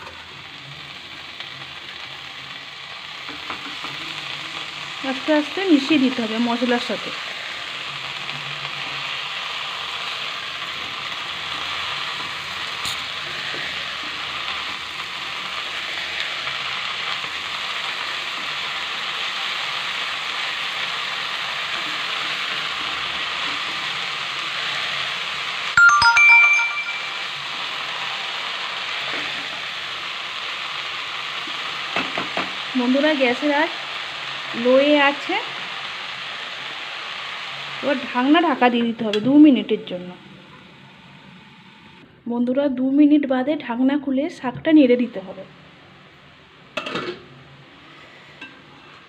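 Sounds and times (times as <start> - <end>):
greens sizzling in a wok: 0.0 - 25.8, 26.7 - 42.1, 43.0 - 49.0.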